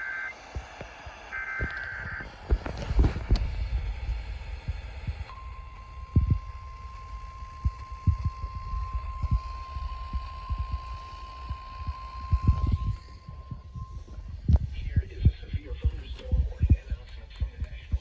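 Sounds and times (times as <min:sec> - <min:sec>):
low radio reception thumps: 0:00.0 - 0:18.0.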